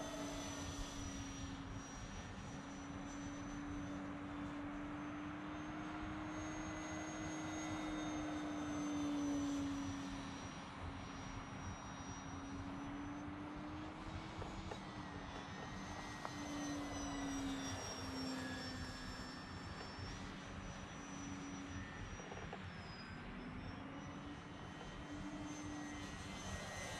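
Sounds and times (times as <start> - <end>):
model plane motor whining: 0.0 - 26.9.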